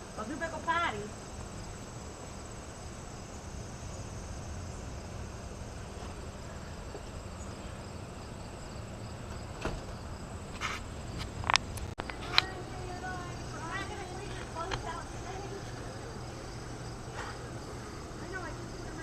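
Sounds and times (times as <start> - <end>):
insects trilling: 0.0 - 19.0
low steady rumble: 0.0 - 19.0.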